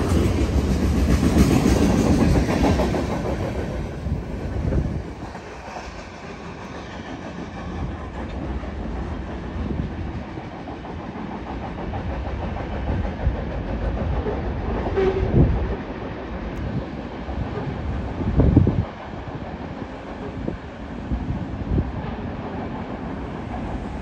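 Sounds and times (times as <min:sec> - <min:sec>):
freight train rumble and wheel clatter: 0:00.0 - 0:24.0.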